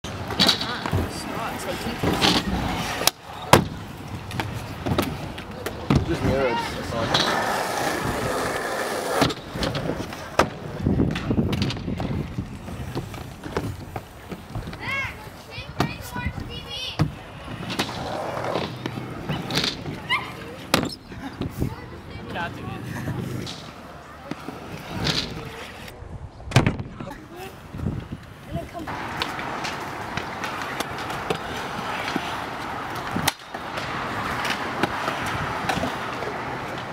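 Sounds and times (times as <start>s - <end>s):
scooter wheels rolling: 0.1s - 26.0s, 27.0s - 36.9s.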